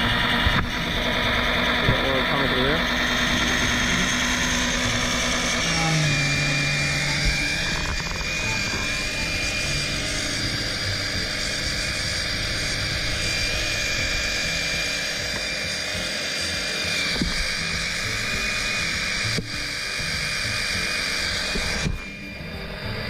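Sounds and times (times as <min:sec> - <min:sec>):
electric pump whining: 0:00.0 - 0:23.0.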